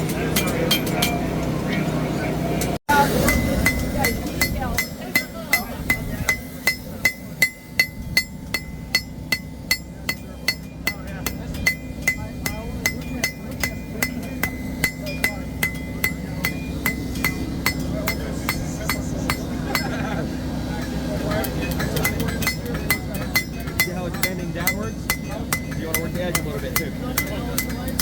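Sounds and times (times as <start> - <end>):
hammer striking steel on anvil: 0.1 - 1.5, 2.9 - 20.1, 20.7 - 28.0.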